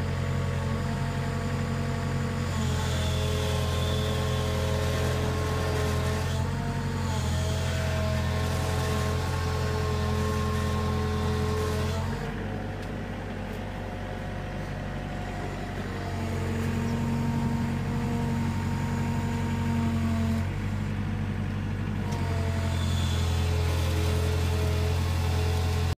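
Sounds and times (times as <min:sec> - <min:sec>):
excavator diesel engine: 0:00.0 - 0:26.0
hydraulic whine: 0:02.3 - 0:14.0, 0:14.7 - 0:21.1, 0:22.0 - 0:26.0.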